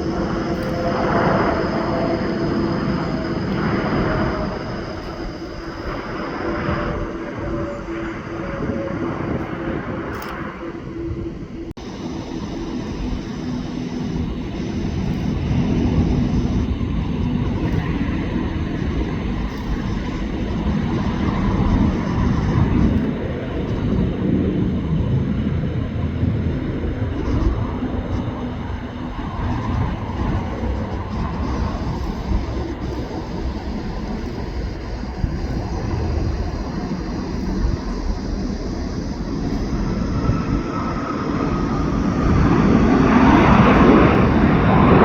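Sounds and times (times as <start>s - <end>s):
jet engines rumbling: 0.0s - 45.0s.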